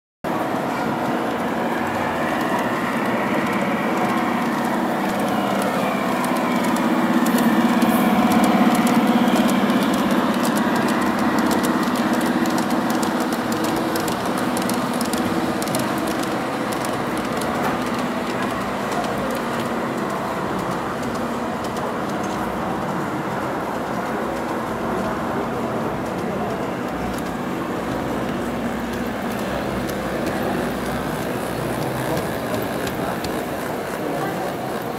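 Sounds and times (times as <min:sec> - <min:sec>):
model train motor and wheel hum: 0:00.3 - 0:34.9
wheels clicking on rails: 0:00.3 - 0:34.9.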